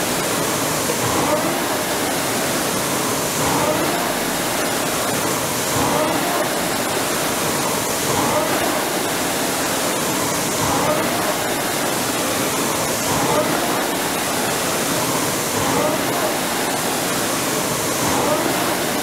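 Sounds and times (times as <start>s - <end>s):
rowing machine flywheel whooshing: 3.0s - 19.0s.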